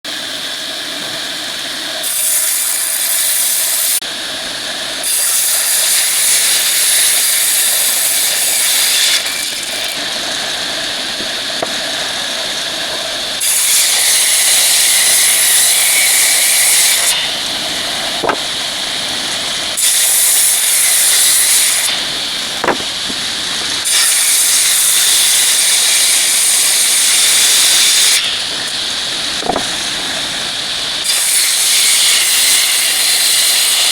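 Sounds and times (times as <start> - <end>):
wood fed through tool hissing: 0.1 - 33.9
woodworking power tool running: 0.2 - 33.3.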